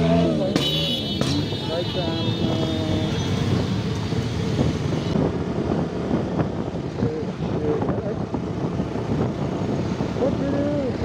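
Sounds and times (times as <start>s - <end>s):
road noise: 0.0s - 11.0s
wind buffeting microphone: 1.4s - 11.0s.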